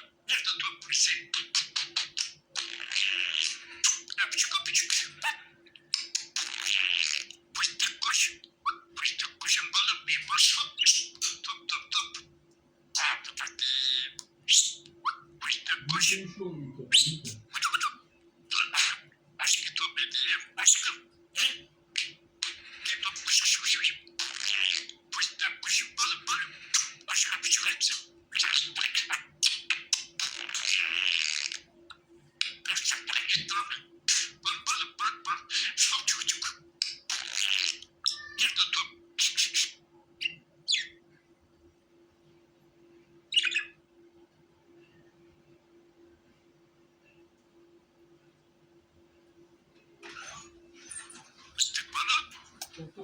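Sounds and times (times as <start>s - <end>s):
budgerigar chirping and squawking: 0.0s - 12.3s, 13.0s - 31.7s, 32.4s - 41.0s, 43.3s - 43.8s, 50.0s - 53.0s
faint steady hum: 0.0s - 53.0s.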